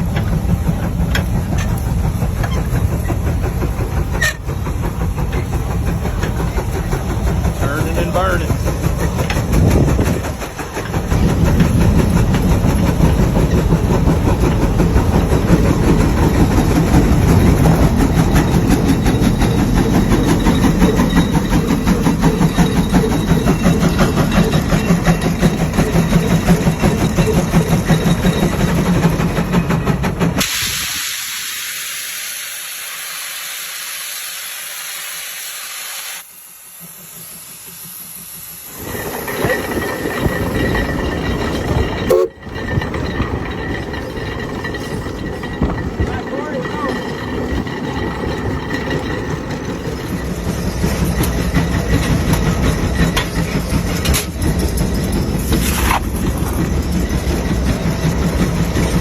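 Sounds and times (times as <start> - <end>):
tractor diesel engine rumbling: 0.0 - 30.4, 38.8 - 59.0.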